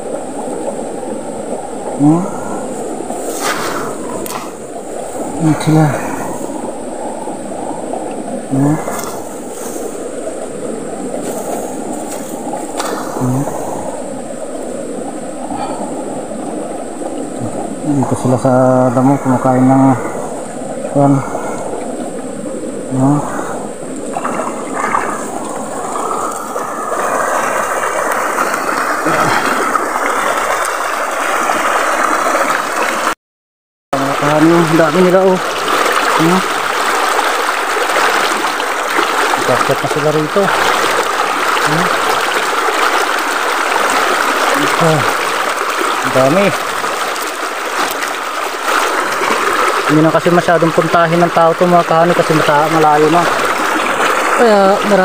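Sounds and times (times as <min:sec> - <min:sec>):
stream rushing over stones: 0:00.0 - 0:33.2, 0:34.0 - 0:55.0.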